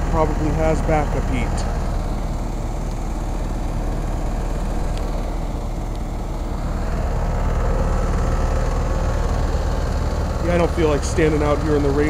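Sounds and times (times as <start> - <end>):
heat pump humming: 0.0 - 12.0.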